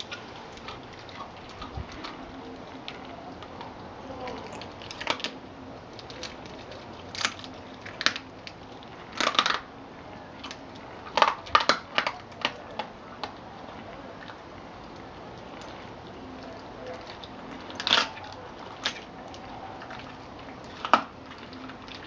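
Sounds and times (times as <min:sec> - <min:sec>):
dog crunching bones: 0:00.0 - 0:22.0.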